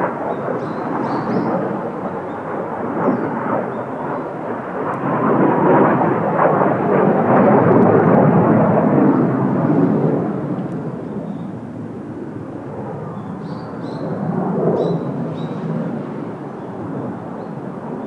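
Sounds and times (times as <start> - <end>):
jet aircraft flying overhead: 0.0 - 18.0.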